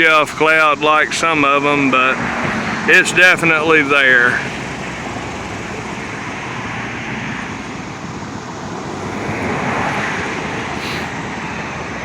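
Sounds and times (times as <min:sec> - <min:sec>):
outdoor rushing noise: 0:00.0 - 0:12.0.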